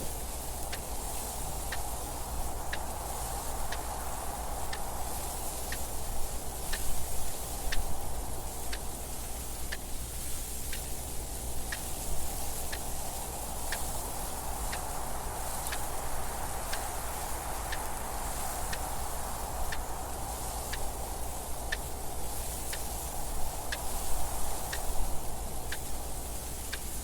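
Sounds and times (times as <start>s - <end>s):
wind-like rushing noise: 0.0s - 27.0s.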